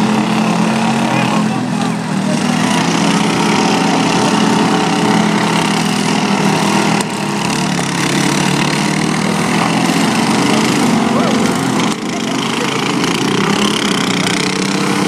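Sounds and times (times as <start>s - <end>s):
riding mower engines droning: 0.0s - 15.0s.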